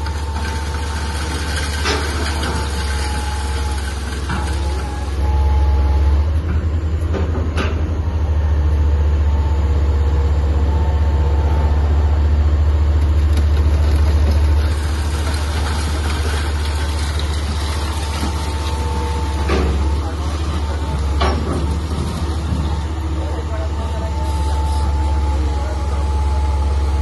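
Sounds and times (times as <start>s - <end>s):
excavator diesel engine rumbling: 0.0s - 27.0s.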